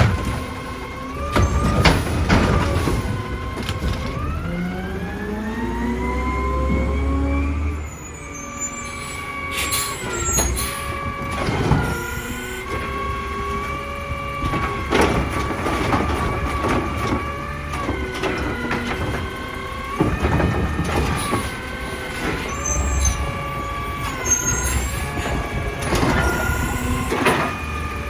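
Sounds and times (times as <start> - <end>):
garbage truck engine: 0.0 - 28.0.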